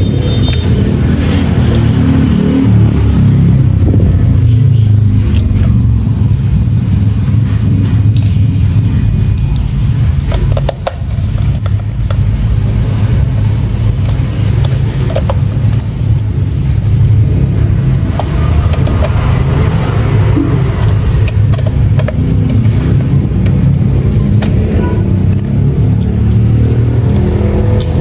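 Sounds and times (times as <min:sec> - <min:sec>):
loud low rumble: 0:00.0 - 0:28.0.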